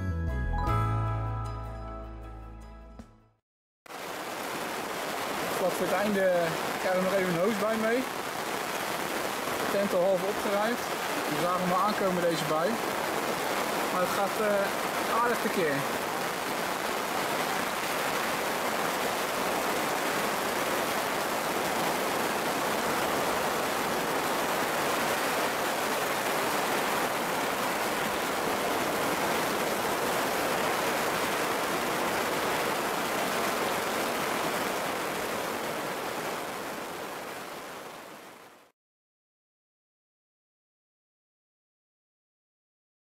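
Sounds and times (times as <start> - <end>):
heavy rain pouring: 3.9 - 38.7.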